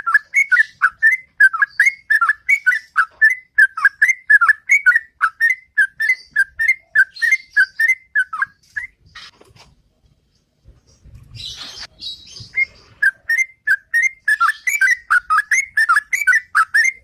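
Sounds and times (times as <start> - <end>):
bird fluty whistled notes: 0.0 - 9.2, 11.5 - 17.0.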